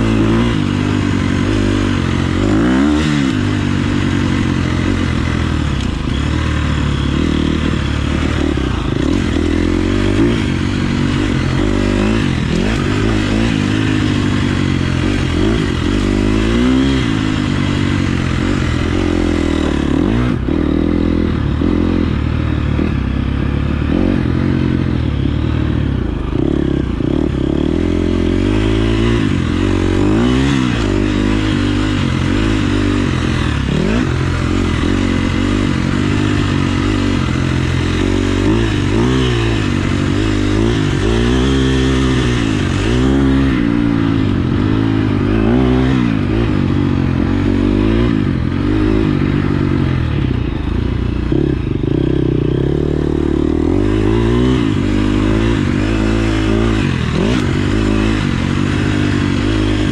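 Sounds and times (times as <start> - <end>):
motocross engine revving: 0.0 - 59.9
steady rushing noise: 0.0 - 59.9.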